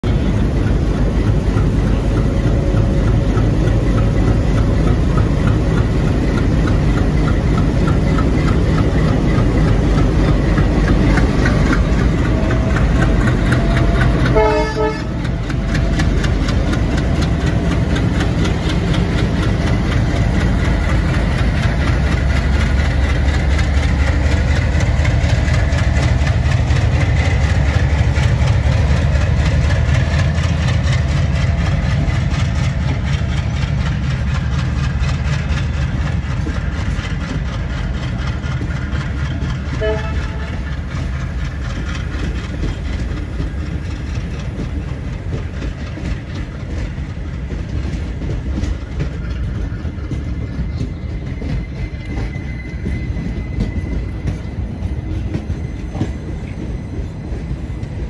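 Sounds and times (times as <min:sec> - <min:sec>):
diesel locomotive engines throbbing: 0:00.0 - 0:58.0.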